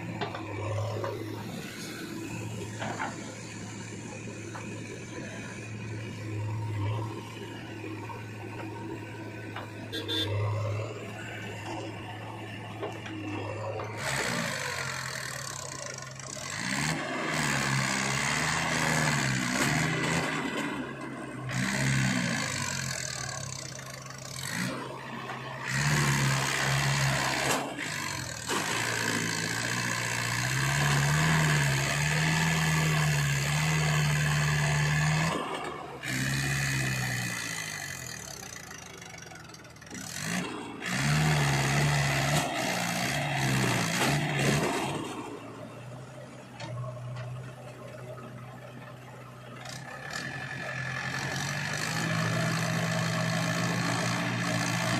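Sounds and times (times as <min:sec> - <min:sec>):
diesel engines revving: 0:00.0 - 0:54.9.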